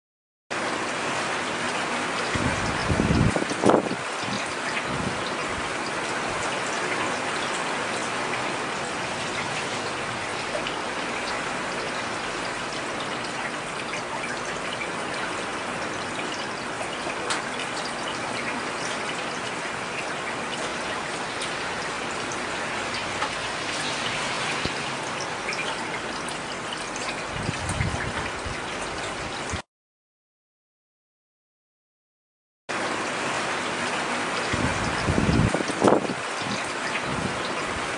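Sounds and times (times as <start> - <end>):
heavy rain falling: 0.5 - 29.6, 32.7 - 37.9.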